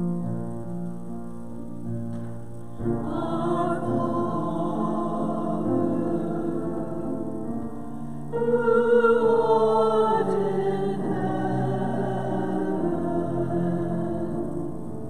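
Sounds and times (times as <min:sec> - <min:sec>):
choir singing sustained chords: 0:02.7 - 0:15.0.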